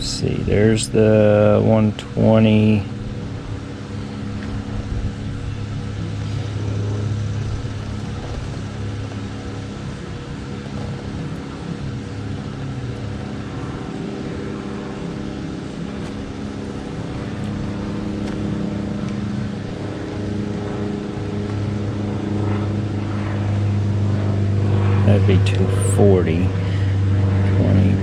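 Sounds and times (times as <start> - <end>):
motor engine running: 0.0 - 28.0.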